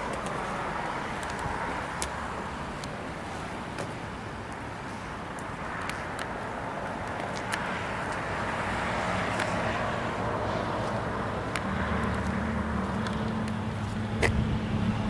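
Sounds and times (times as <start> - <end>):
traffic engine and tyre noise: 0.0 - 15.0.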